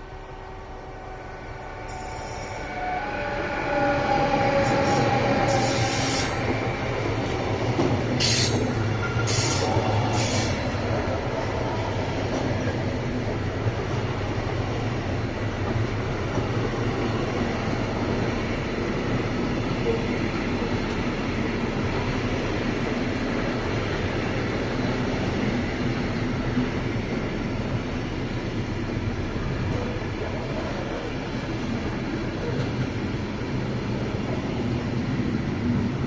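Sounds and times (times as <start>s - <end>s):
train rolling past: 0.0s - 36.0s.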